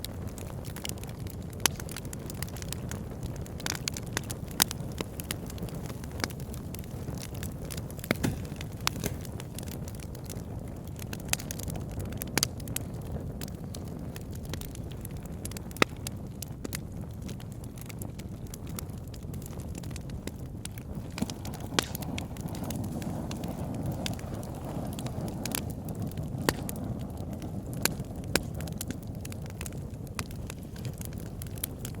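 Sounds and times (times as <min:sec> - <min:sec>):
fire crackling and popping: 0:00.0 - 0:32.0
fire rumbling: 0:00.0 - 0:32.0.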